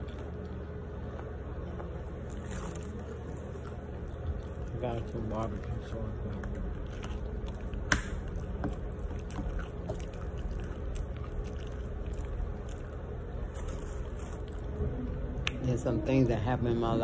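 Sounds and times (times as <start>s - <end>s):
person chewing food: 0.0s - 15.6s
low background hum: 0.0s - 17.0s.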